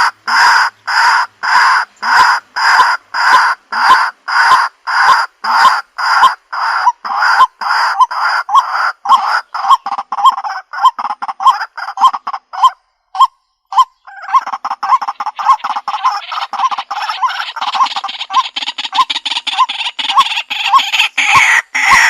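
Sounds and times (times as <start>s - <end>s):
bird calling repeated loud notes: 0.0s - 22.0s.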